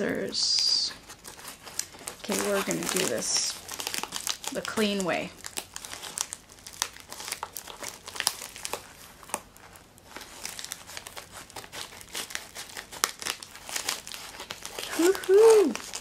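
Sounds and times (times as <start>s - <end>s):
envelope crinkling: 0.0s - 16.0s.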